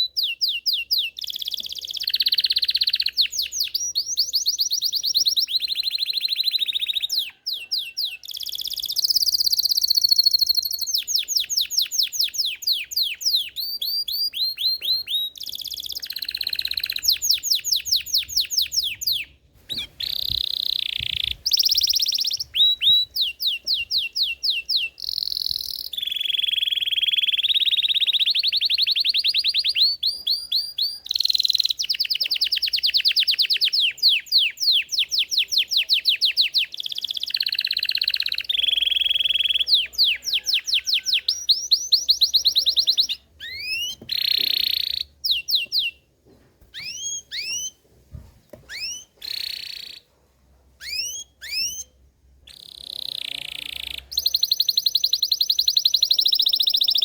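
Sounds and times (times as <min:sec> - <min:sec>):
canary singing trills: 0:00.0 - 0:46.1, 0:46.7 - 0:47.8, 0:48.6 - 0:50.1, 0:50.8 - 0:57.0.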